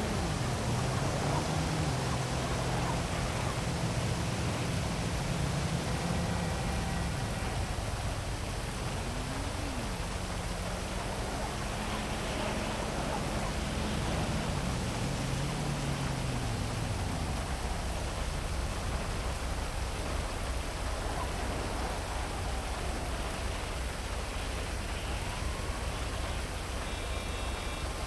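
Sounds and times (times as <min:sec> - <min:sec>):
faint siren: 0:00.0 - 0:19.0, 0:20.0 - 0:28.0
city traffic: 0:00.0 - 0:28.0
heavy rain: 0:00.0 - 0:28.0
vehicle engine hum: 0:00.0 - 0:28.0.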